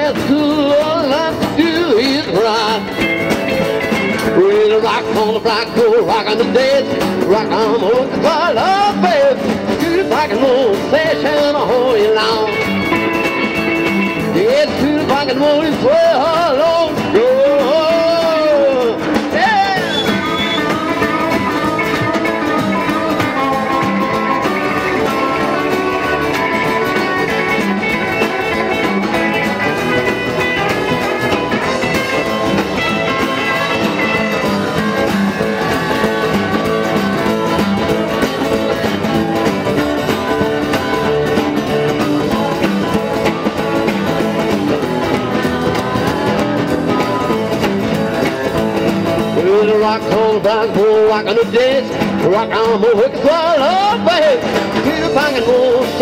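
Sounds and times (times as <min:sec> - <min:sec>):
rock band acoustic guitars: 0:00.0 - 0:56.0.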